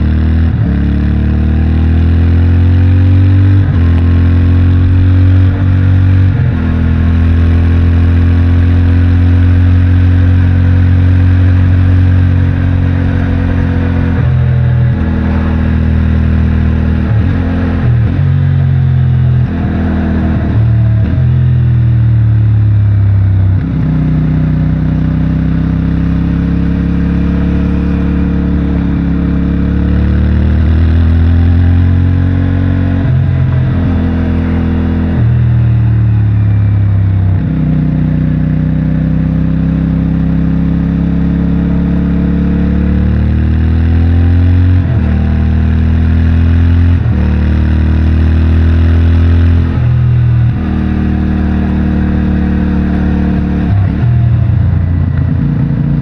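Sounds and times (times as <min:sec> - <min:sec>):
motorcycle engine under way: 0:00.0 - 0:56.0.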